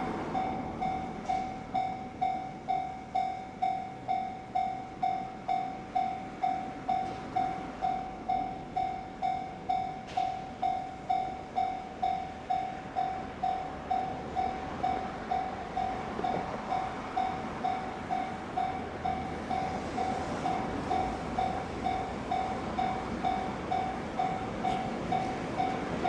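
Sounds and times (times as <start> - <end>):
faint rushing of train: 0.0 - 26.0
level crossing alarm chimes: 0.4 - 26.0.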